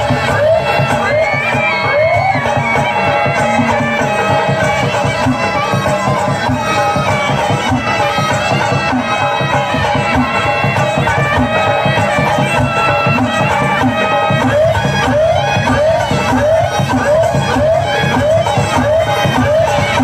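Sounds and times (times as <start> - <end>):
reedy wind melody: 0.0 - 20.0.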